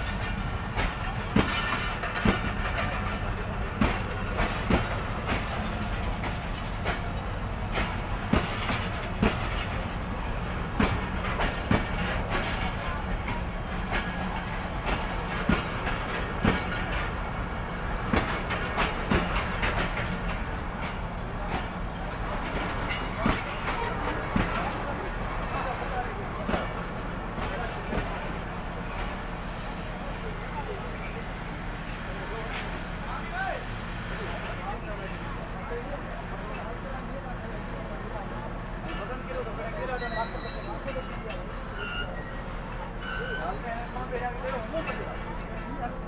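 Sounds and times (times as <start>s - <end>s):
train rolling past rumble: 0.0s - 46.0s
wheels clacking over rail joints: 0.0s - 46.0s.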